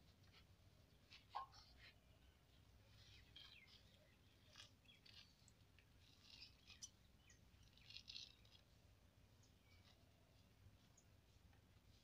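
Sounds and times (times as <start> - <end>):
fruit fibres rustling and scratching: 0.0 - 12.0.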